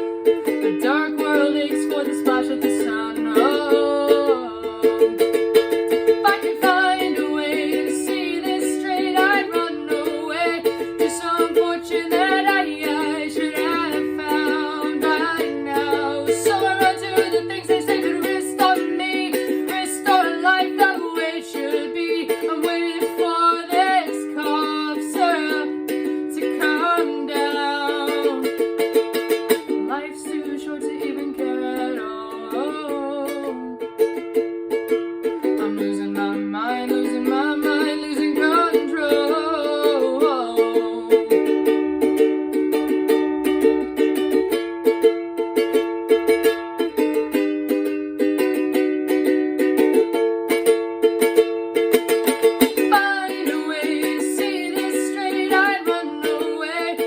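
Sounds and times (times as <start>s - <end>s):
person singing: 0.0s - 34.4s, 35.2s - 44.8s, 51.8s - 57.0s
strummed acoustic string chords: 0.0s - 57.0s.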